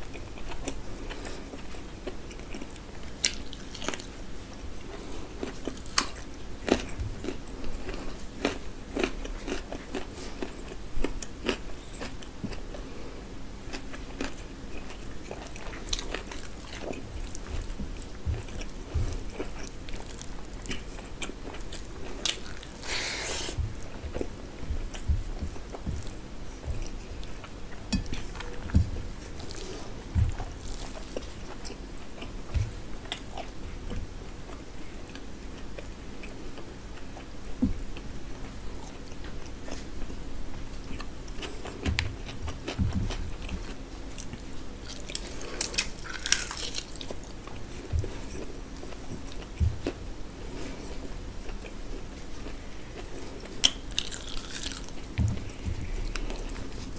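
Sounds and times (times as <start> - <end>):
close chewing: 0.0 - 4.2, 4.8 - 13.0, 13.7 - 37.3, 40.8 - 56.9.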